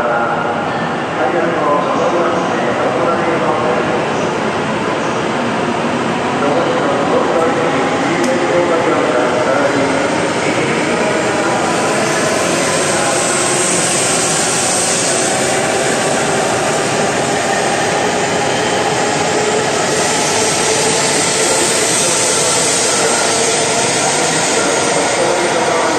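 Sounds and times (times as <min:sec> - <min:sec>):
train rushing past: 0:00.0 - 0:25.9.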